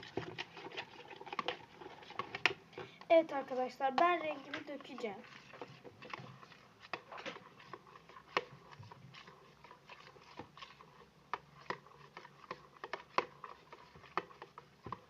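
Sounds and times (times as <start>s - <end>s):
small clicks and wet taps: 0.0s - 15.0s.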